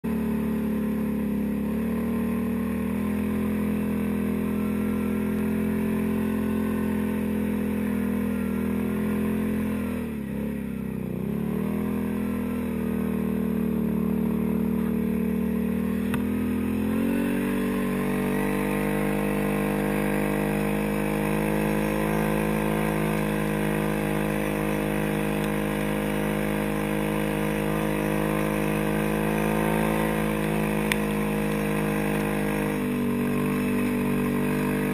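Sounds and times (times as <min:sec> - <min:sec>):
atv engine drone: 0:00.0 - 0:34.9.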